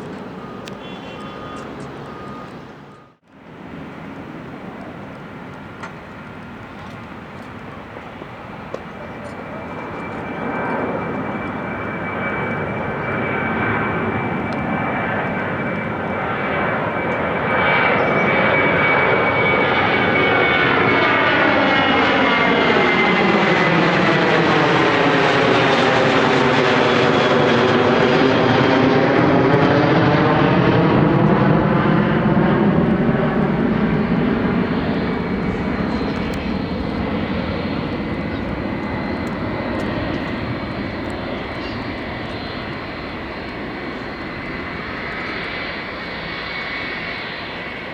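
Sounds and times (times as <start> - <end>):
high engine whine: 0.0 - 47.9
jet airliner passing: 0.0 - 47.9.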